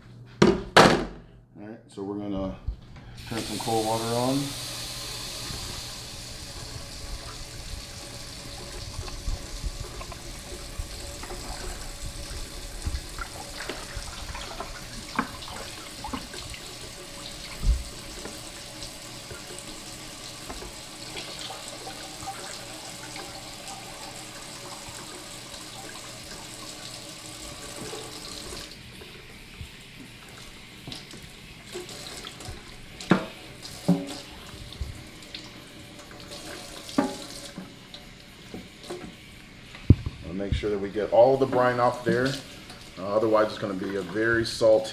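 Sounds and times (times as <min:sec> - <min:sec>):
faucet running into sink: 0:03.2 - 0:44.9.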